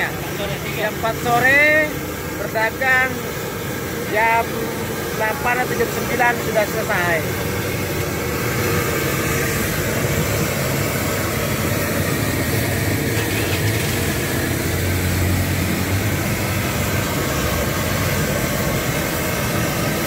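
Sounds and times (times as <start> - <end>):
engine idling: 0.0 - 20.0
roadside traffic: 0.0 - 20.0.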